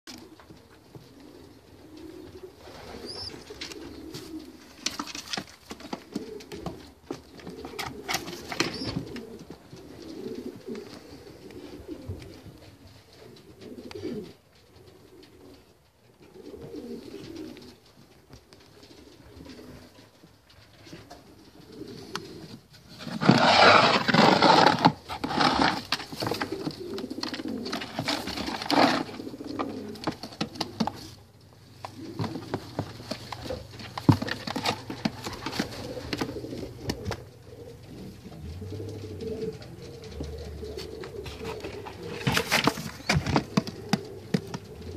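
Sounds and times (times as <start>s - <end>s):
pigeons cooing: 0.1s - 44.9s.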